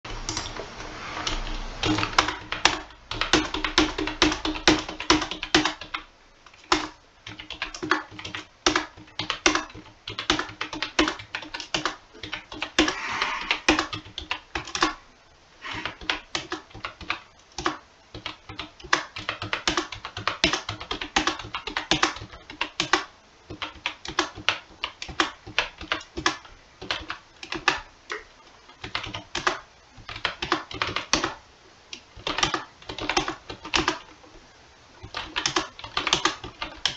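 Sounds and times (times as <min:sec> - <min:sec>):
computer keyboard typing: 0:01.2 - 0:15.0, 0:15.6 - 0:31.4, 0:32.0 - 0:34.2, 0:35.0 - 0:36.9.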